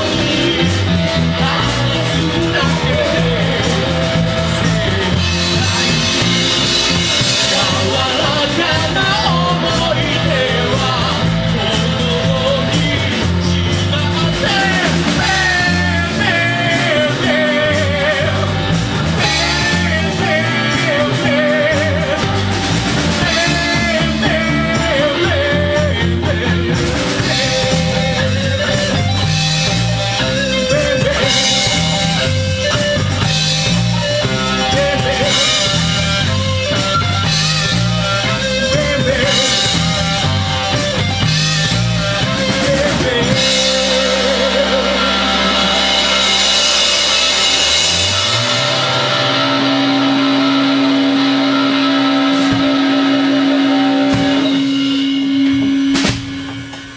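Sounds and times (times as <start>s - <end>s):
drum beat: 0.0s - 56.9s
rock band playing: 0.0s - 56.9s.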